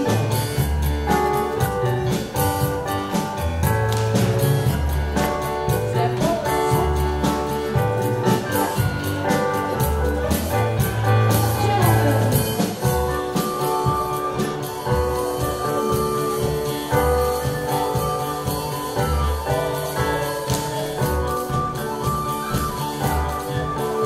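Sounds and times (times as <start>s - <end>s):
dance band playing upbeat tune: 0.0s - 24.0s.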